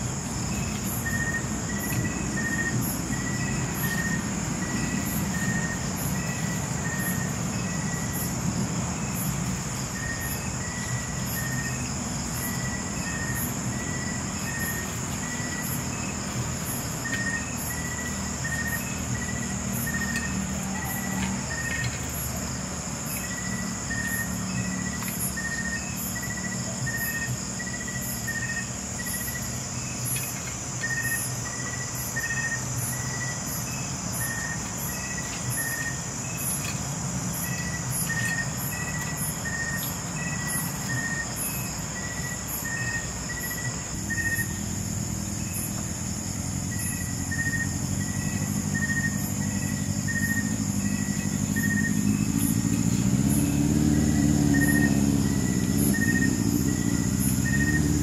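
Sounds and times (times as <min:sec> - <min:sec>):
crickets buzzing: 0:00.0 - 0:58.0
low vehicle engine rumble: 0:00.0 - 0:58.0
short insect chirp: 0:00.0 - 0:58.0.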